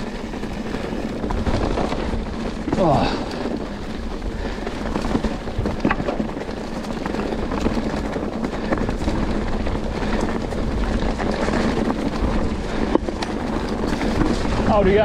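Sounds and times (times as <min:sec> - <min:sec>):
bike knocks and rattles: 0:00.0 - 0:15.0
bike tyres rumbling: 0:00.0 - 0:15.0
wind buffeting microphone: 0:00.0 - 0:15.0.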